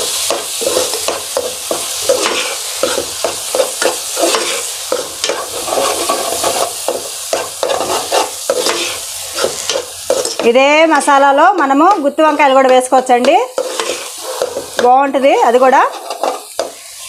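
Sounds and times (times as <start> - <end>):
spices sizzling in oil: 0.0 - 17.0
metal spoon scraping a pan: 0.1 - 17.0.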